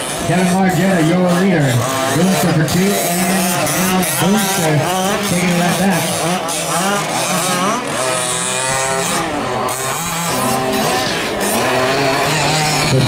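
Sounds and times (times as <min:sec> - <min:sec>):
small two-stroke engines racing: 0:00.0 - 0:13.0.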